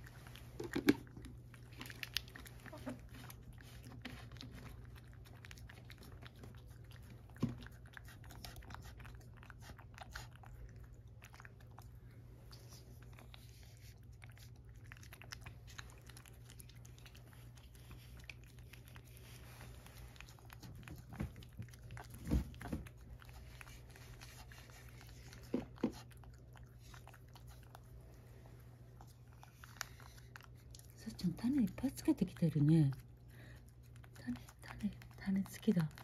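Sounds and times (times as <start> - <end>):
cat licking and lapping: 0.0 - 36.0
low steady hum: 0.0 - 36.0.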